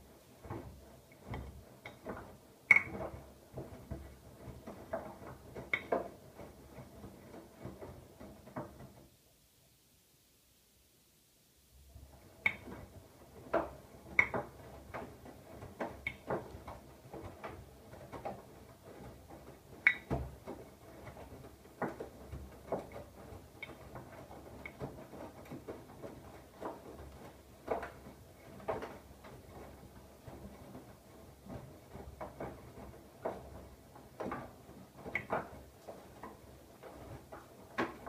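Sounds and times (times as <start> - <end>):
laundry tumbling knocks: 0.0 - 9.1, 11.9 - 38.0.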